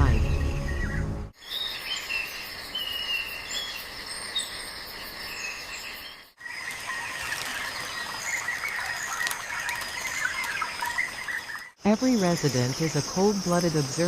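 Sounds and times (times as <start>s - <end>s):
insect chorus with rasping trill: 0.5s - 14.0s
insects droning: 1.4s - 14.0s.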